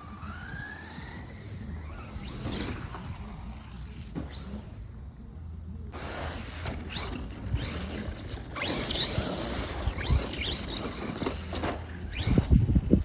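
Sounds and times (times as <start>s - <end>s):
electric motor whining: 0.0s - 4.7s, 6.0s - 13.0s
rush of tyres: 0.0s - 4.8s, 6.0s - 13.0s.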